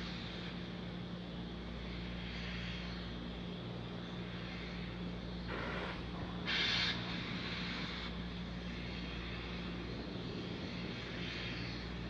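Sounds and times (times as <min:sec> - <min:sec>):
constant low hum: 0:00.0 - 0:12.0
rocket venting gas rumble and hiss: 0:00.0 - 0:12.0.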